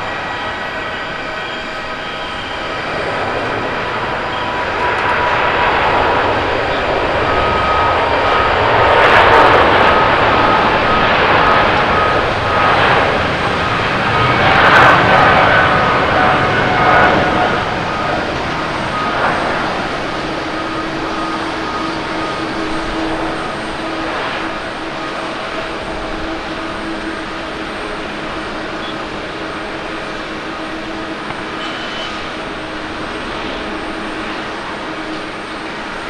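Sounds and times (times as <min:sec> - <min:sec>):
jet engines roaring at takeoff: 0:00.0 - 0:36.0.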